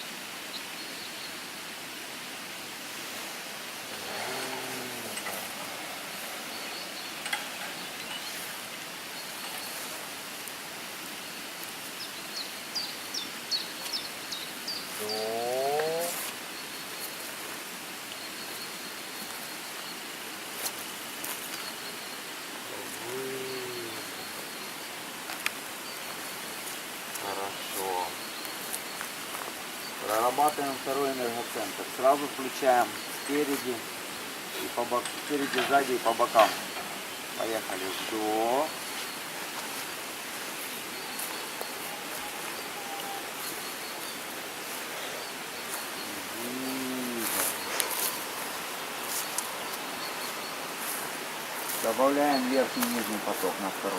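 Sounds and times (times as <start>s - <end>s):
steady outdoor hiss: 0.0s - 53.9s.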